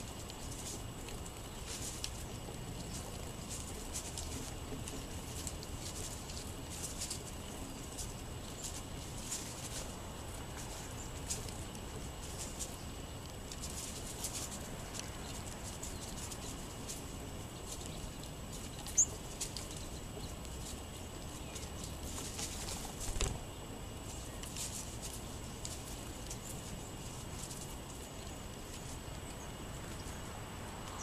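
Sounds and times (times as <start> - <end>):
birds pecking on wooden table: 0.0 - 31.0
steady outdoor hiss: 0.0 - 31.0.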